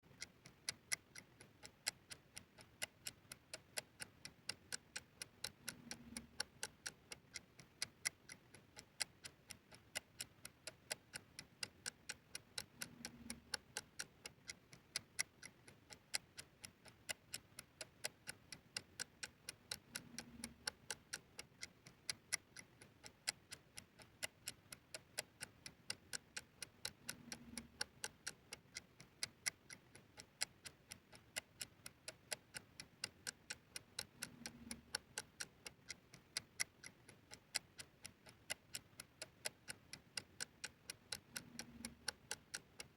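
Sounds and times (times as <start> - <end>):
clock-like ticking: 0.0 - 42.9.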